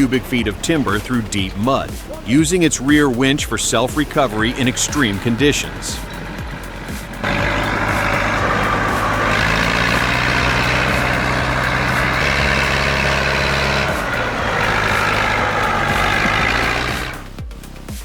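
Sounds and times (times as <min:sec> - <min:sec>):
tractor diesel engine under load: 0:00.0 - 0:17.5.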